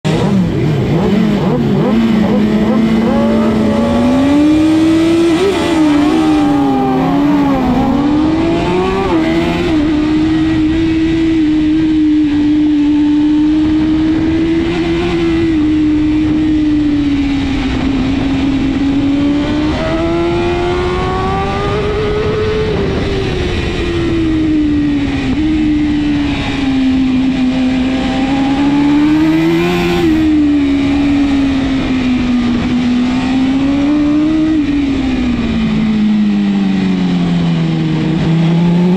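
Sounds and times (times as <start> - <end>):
motorcycle engine racing: 0.0 - 38.9.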